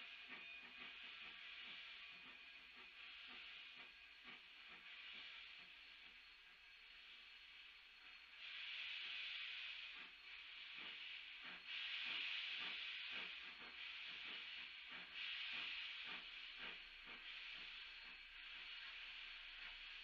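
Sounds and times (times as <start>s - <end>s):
steam hissing: 0.0s - 20.0s
steam locomotive chuffing: 0.0s - 20.0s.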